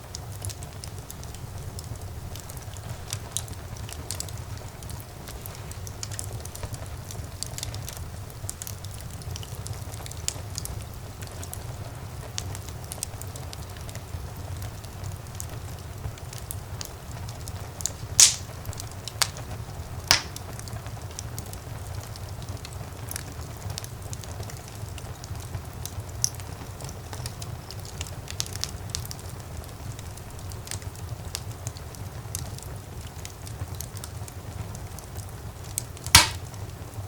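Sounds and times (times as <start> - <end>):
fire crackling in a fireplace: 0.0 - 37.0
loud fire pops: 0.1 - 37.0.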